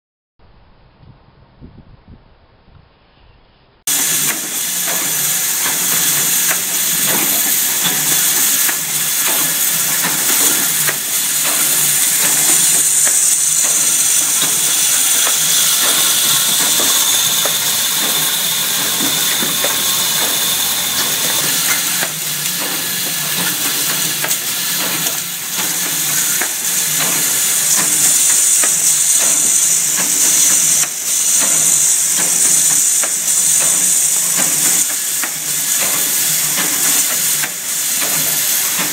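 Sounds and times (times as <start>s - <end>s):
machine hissing: 3.9s - 38.9s
riveting machine clatter: 3.9s - 38.9s.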